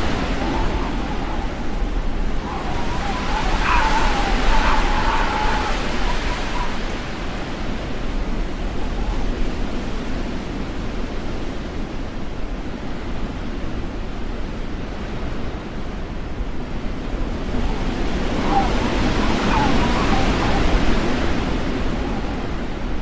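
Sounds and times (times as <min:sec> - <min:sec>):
storm wind on microphone: 0:00.0 - 0:14.1, 0:14.9 - 0:23.0.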